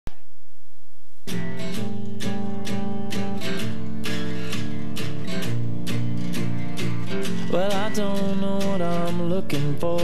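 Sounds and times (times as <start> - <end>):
acoustic guitar strumming: 1.2 - 10.0.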